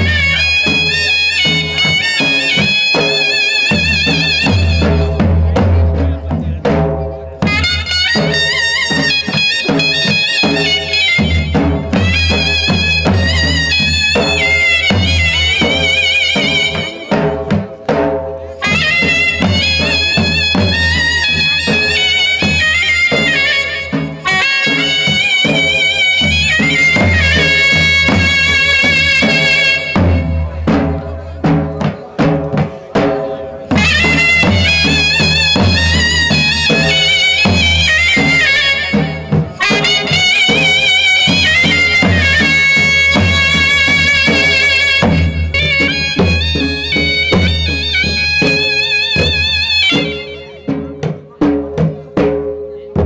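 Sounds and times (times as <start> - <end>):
steady drum beat: 0.0 - 53.0.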